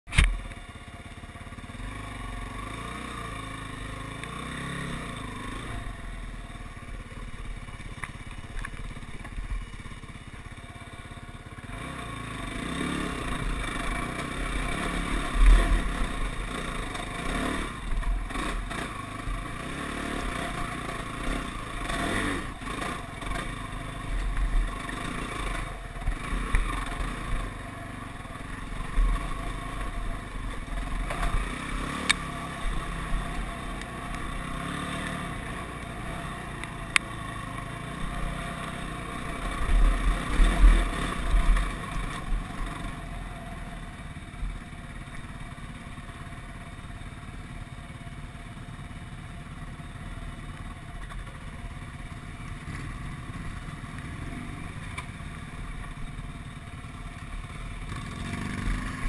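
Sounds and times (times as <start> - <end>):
atv engine revving: 0.1 - 59.0.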